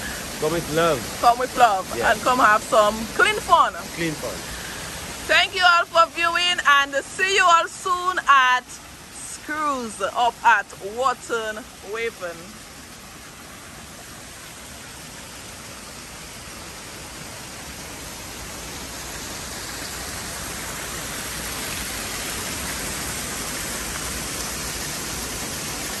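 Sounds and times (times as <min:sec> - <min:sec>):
water splashing down stone cascade: 0:00.0 - 0:26.0.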